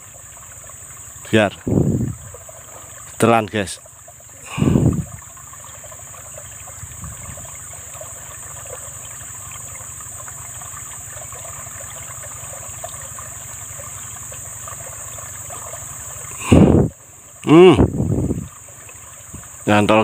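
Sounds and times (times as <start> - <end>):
stream water trickling: 0.0 - 20.0.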